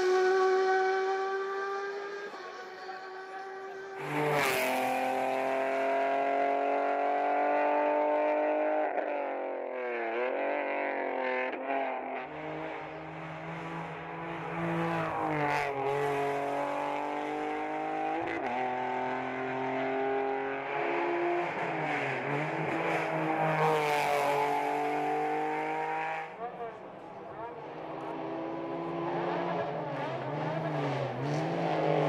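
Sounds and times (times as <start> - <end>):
race car engine at full throttle: 0.0 - 32.0.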